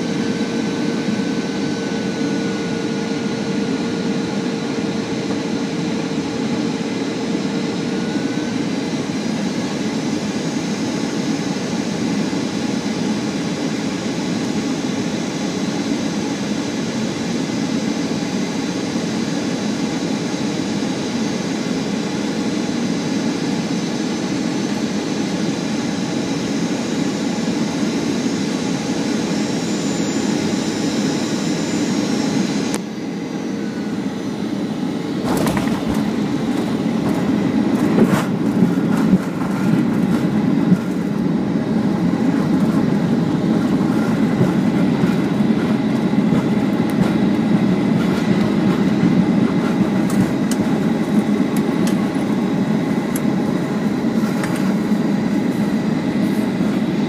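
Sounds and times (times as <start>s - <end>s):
airflow rush in cabin: 0.0s - 17.2s, 24.2s - 57.0s
faint steady whine: 0.0s - 18.1s, 19.1s - 57.0s
jet engines: 0.0s - 57.0s.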